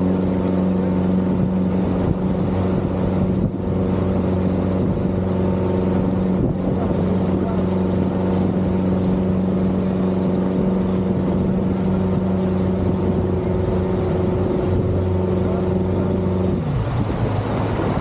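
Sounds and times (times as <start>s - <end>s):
outboard motor droning: 0.0s - 18.0s
water rushing from wake: 0.0s - 18.0s.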